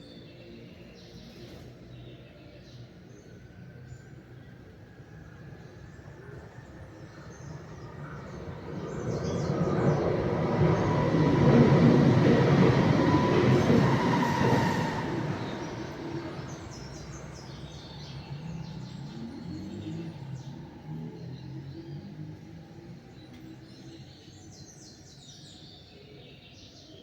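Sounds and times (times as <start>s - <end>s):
birds chirping: 5.2s - 27.0s.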